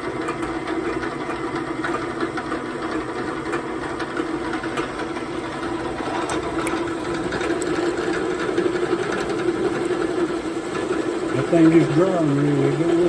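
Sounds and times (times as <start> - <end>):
drill press running: 0.0 - 13.0.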